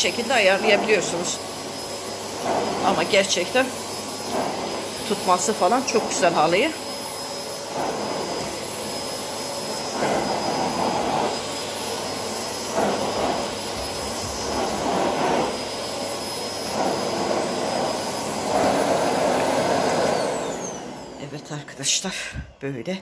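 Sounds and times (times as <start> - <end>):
vacuum nozzle pushed over rug: 0.0 - 21.6
vacuum cleaner running: 0.0 - 22.8.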